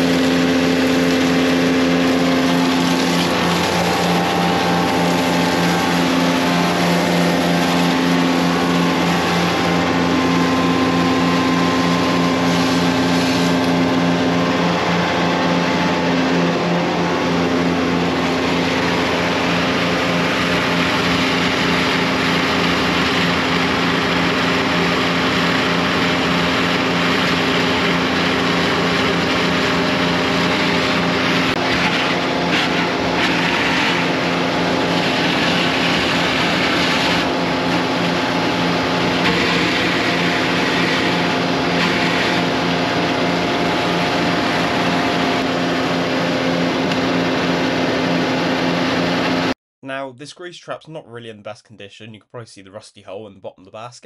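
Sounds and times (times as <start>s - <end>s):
truck engine and pumps droning: 0.0s - 49.6s.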